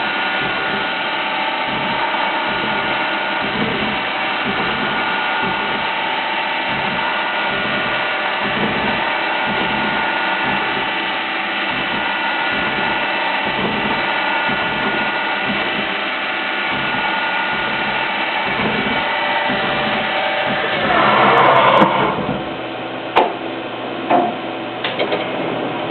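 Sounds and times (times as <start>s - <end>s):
mill machine whining: 0.0s - 23.5s.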